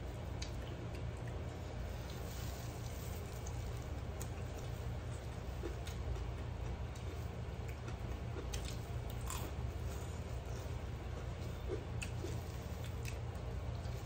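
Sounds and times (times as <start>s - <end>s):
steady low hum: 0.0s - 14.0s
chewing: 0.3s - 14.0s.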